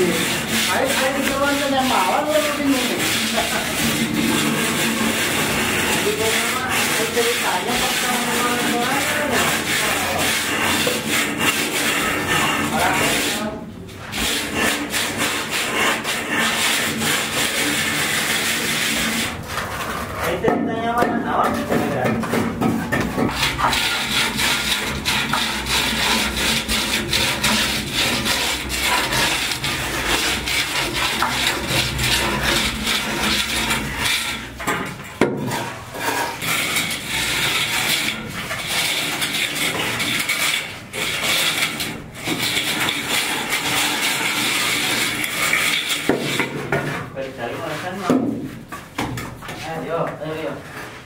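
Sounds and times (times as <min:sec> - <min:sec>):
tools scraping wet cement: 0:00.0 - 0:51.0.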